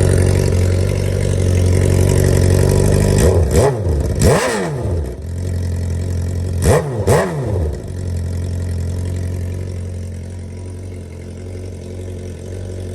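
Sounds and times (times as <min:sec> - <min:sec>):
motorcycle engine idling and revving: 0:00.0 - 0:12.9.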